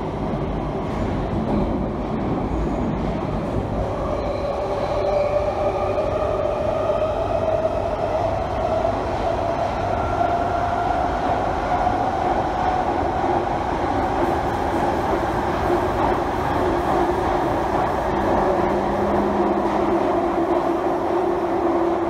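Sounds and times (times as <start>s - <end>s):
train wheels rumbling in tunnel: 0.0s - 22.0s.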